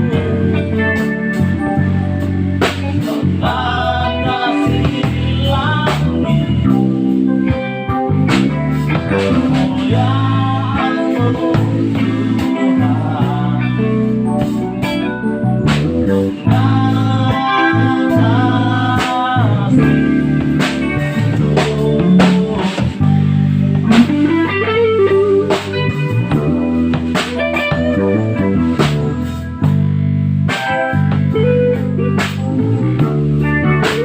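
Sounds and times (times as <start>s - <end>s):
bass: 0.0s - 34.0s
drum kit beat: 0.0s - 34.0s
electric guitar lines: 0.0s - 34.0s
keyboard: 0.0s - 34.0s.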